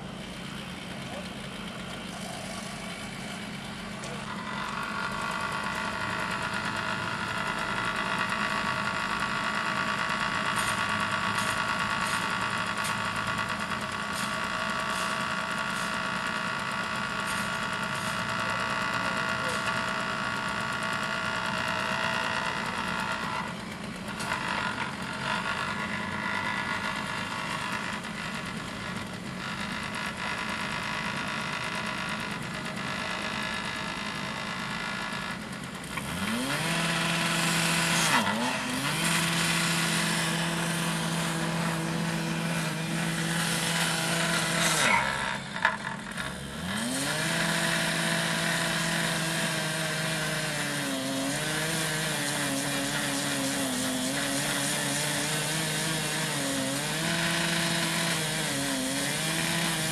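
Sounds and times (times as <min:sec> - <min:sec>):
small engine revving: 0:00.0 - 0:59.9.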